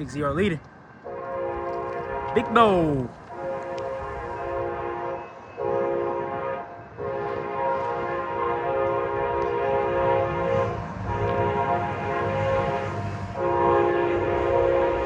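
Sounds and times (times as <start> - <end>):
rumble of moving train: 0.0 - 15.0
train air horn blasts: 1.1 - 15.0.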